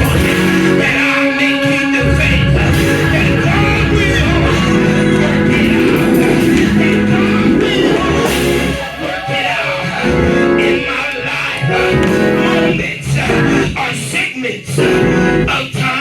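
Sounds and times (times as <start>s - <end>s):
guitar: 0.0s - 16.0s
live gospel band: 0.0s - 16.0s
people singing: 0.0s - 16.0s.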